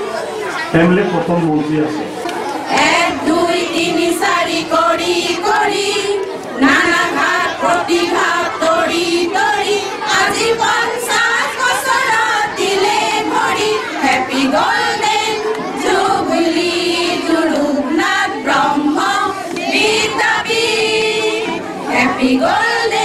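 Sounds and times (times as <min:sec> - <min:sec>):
women singing together: 0:02.5 - 0:23.0.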